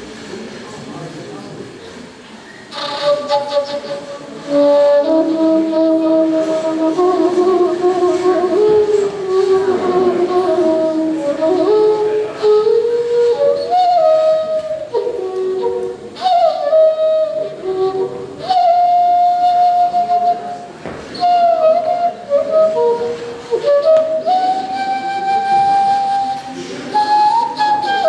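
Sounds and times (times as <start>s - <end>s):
bamboo flute played slowly: 2.5s - 28.0s.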